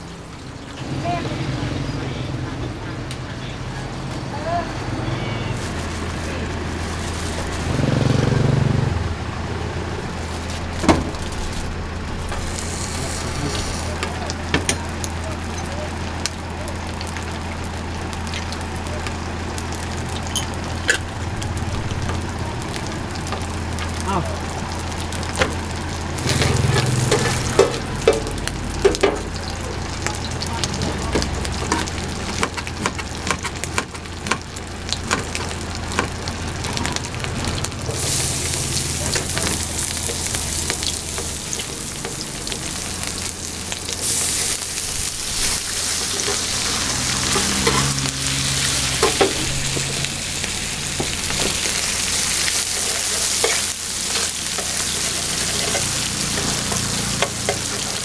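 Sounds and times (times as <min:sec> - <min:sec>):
food sizzling on a griddle: 0:03.9 - 0:58.0.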